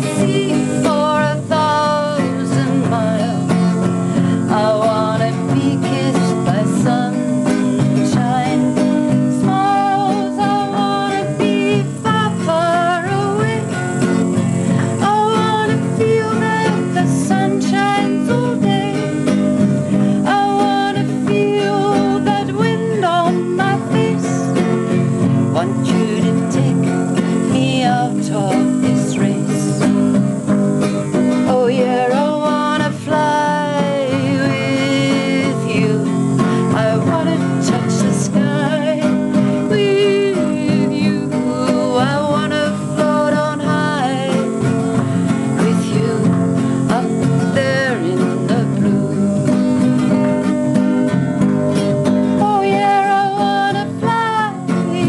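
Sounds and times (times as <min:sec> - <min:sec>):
acoustic guitar: 0:00.0 - 0:55.0
woman singing: 0:00.0 - 0:55.0.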